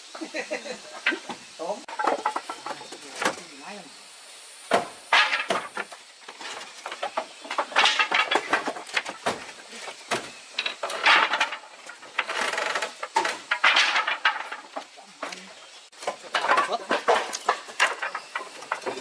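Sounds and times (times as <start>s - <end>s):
hard objects clattering and scraping: 1.0s - 3.7s, 4.7s - 19.0s.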